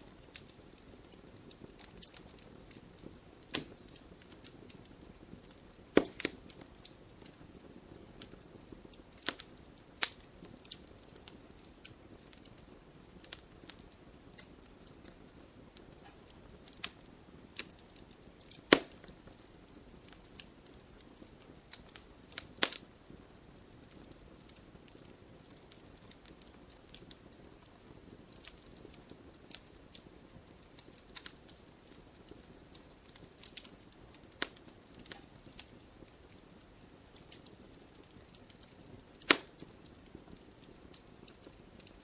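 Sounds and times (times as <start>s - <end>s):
fire popping and snapping: 0.0s - 42.0s
hiss of flames: 0.0s - 42.0s.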